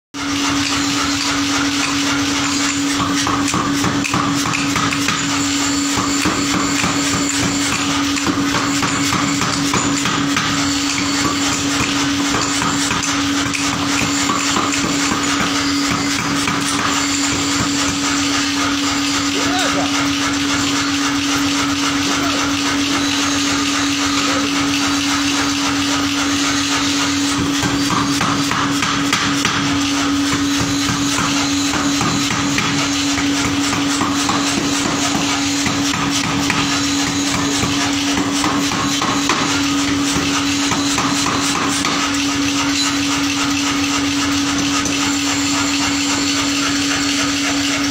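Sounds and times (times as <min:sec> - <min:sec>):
forge blower humming: 0:00.2 - 0:47.9
machinery whirring: 0:00.2 - 0:47.9.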